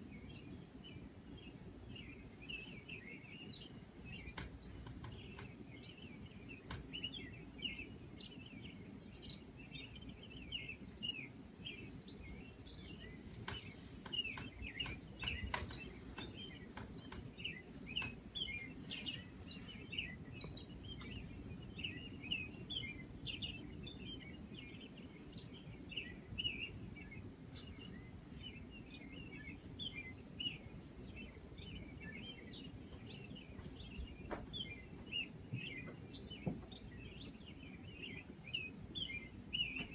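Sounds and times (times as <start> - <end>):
low steady hum: 0.0 - 39.9
small birds chirping: 0.0 - 39.9.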